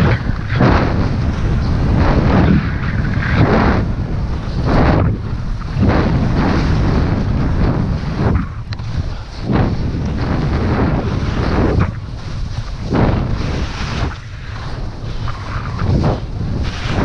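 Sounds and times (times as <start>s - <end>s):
skis scraping on packed snow: 0.0s - 17.0s
wind buffeting microphone: 0.0s - 17.0s.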